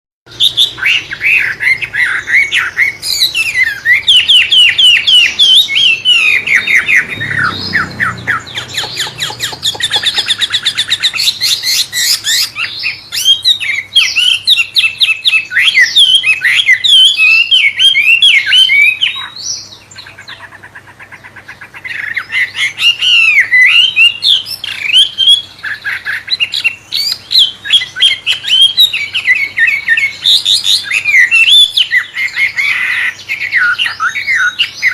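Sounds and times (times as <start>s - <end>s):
songbird singing: 0.3s - 34.9s.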